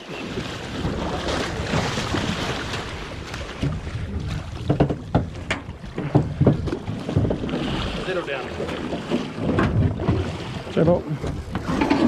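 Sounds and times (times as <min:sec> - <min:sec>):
water noise: 0:00.0 - 0:12.0
wind buffeting microphone: 0:00.2 - 0:12.0.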